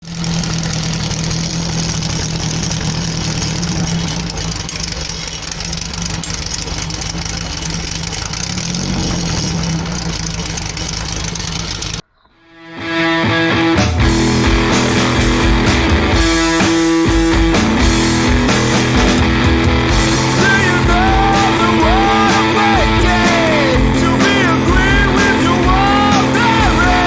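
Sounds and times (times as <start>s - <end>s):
engine running with low hum: 0.0s - 12.1s, 13.8s - 27.0s.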